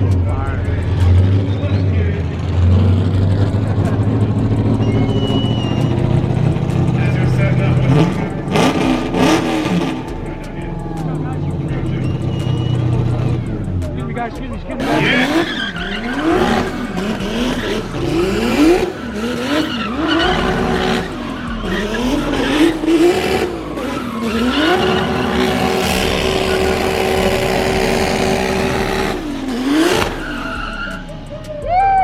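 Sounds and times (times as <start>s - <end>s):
car engine revving: 0.0s - 32.0s
tyres squealing: 3.8s - 13.8s, 14.6s - 32.0s.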